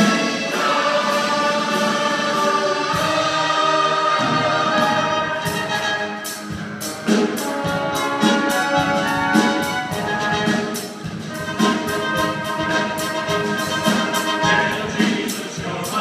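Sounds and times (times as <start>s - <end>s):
processional brass church music: 0.0s - 16.0s.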